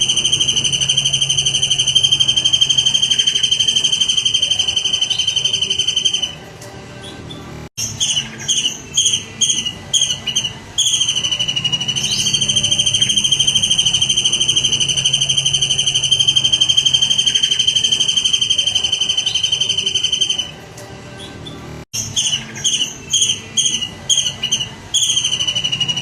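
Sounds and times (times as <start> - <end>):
songbird chirping and trilling: 0.0 - 26.0.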